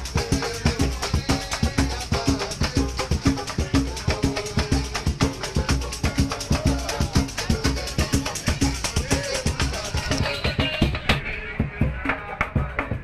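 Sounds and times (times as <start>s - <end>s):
low bass drums: 0.0s - 12.0s
rattling hand percussion: 0.0s - 13.0s
samba percussion band: 0.0s - 13.0s.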